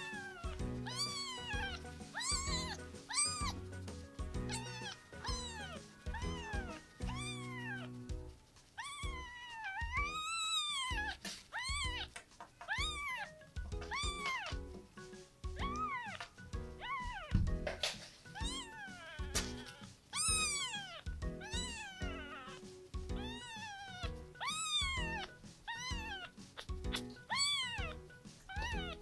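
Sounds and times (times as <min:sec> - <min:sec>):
kitten mewing: 0:00.0 - 0:03.6, 0:04.4 - 0:08.0, 0:08.8 - 0:14.6, 0:15.6 - 0:17.4, 0:18.3 - 0:29.0
soft background music: 0:00.0 - 0:29.0.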